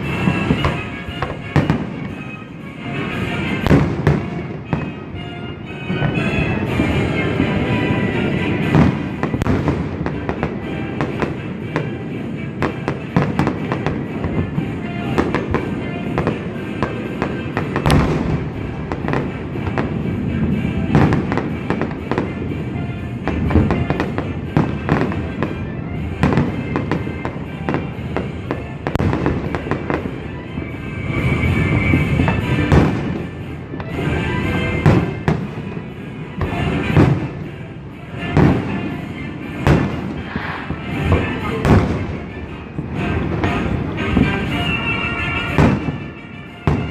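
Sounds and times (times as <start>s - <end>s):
fireworks bangs and crackles: 0.0s - 46.9s
music: 0.0s - 46.9s.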